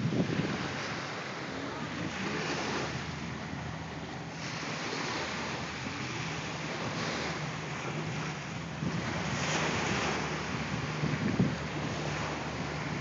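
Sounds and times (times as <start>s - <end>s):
waves washing up beach: 0.0s - 13.0s.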